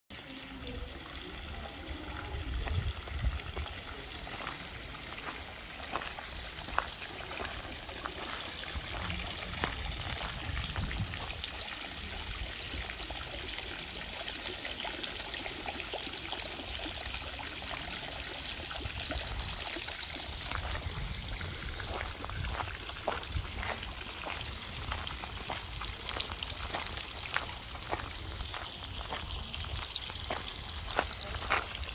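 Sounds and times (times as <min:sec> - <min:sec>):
fountain water splashing into basin: 0:00.1 - 0:31.9.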